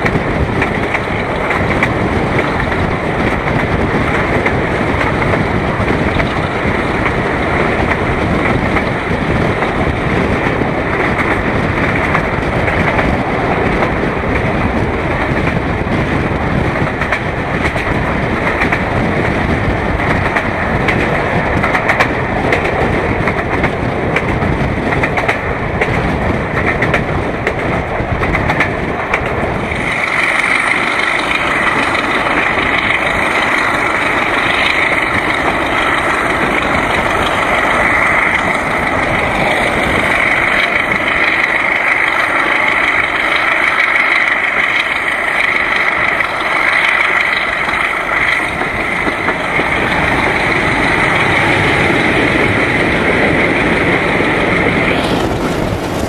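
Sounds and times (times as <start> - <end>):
diesel locomotive working hard: 0.0 - 56.0
train wheels on rails: 0.0 - 56.0.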